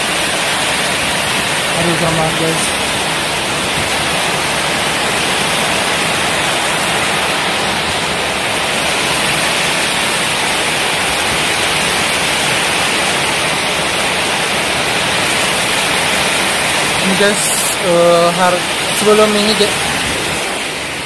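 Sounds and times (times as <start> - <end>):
heavy rain and wind: 0.0 - 21.0.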